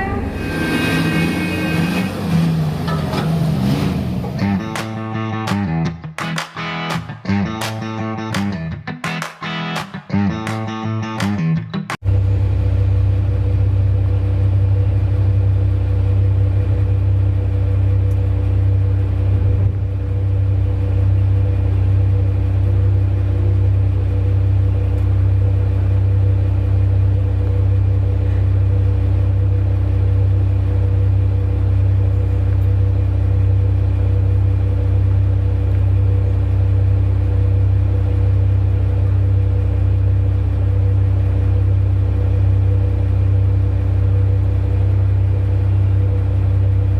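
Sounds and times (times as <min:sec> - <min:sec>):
large diesel engine droning: 0:00.0 - 0:05.8, 0:12.0 - 0:46.9.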